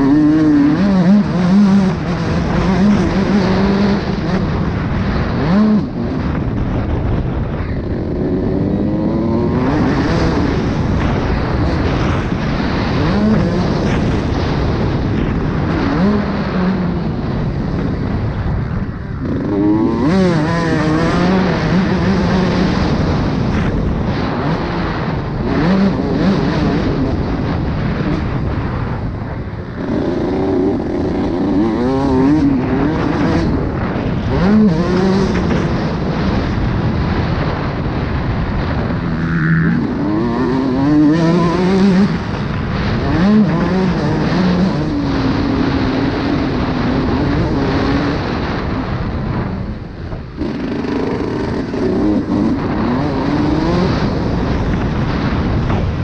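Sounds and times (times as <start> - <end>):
motocross bike engine revving: 0.0 - 55.9
track noise: 0.0 - 56.0
wind noise: 0.0 - 56.0.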